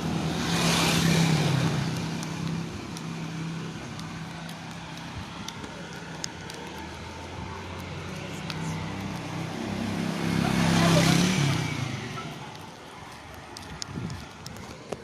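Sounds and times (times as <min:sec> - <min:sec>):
vehicle passing close by: 0:00.0 - 0:12.8.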